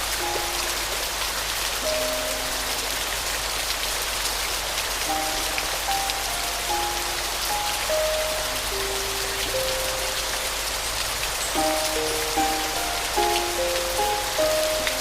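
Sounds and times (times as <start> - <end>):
soft piano notes: 0.0 - 4.2, 5.0 - 15.0
steady rain falling: 0.0 - 15.0.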